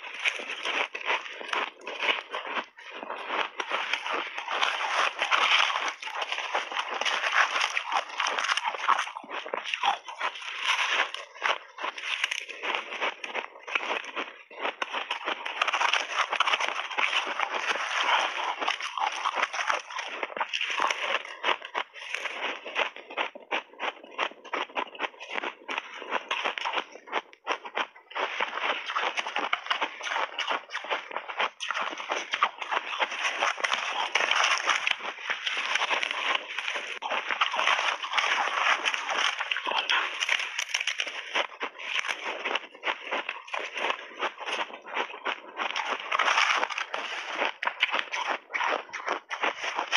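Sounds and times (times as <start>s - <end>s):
crushed ice being chewed: 0.0s - 49.9s.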